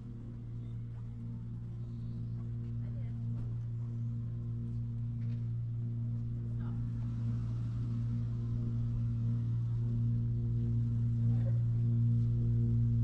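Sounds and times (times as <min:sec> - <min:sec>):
ambient drone music: 0:00.0 - 0:13.0.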